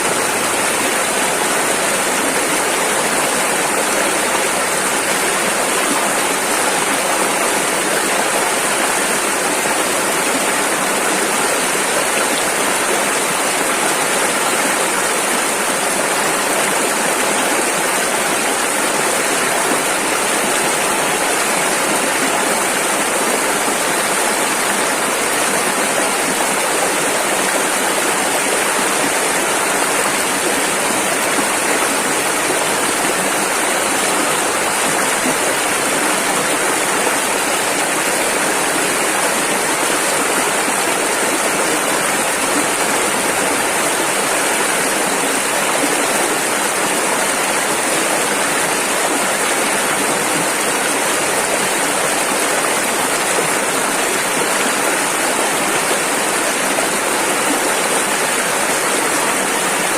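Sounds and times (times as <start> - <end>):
river rushing over rapids: 0.0 - 59.9.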